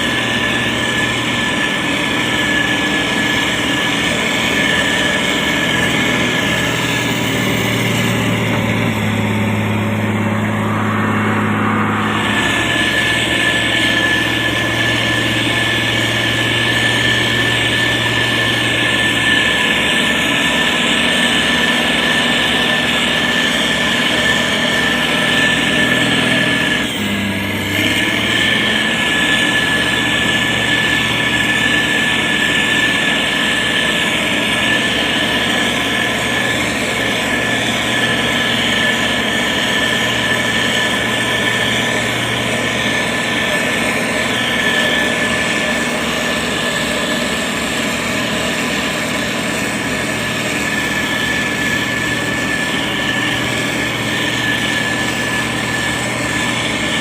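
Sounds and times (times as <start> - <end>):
diesel engine running under load: 0.0 - 57.0
high whine: 0.0 - 57.0.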